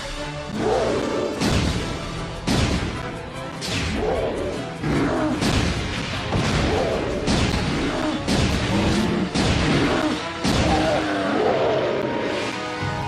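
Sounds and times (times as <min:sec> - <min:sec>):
dramatic background music: 0:00.0 - 0:13.0.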